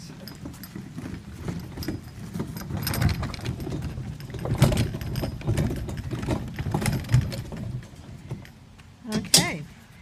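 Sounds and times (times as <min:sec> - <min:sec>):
plastic tank rattling and knocking: 0:00.2 - 0:08.5.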